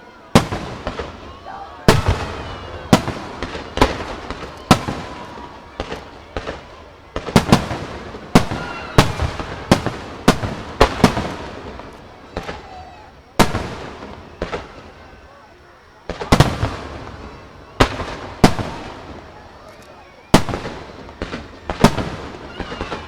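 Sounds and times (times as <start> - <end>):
fireworks bursting with echo: 0.0 - 23.0
fireworks crackle: 0.0 - 23.0
fireworks whistling: 0.0 - 23.0.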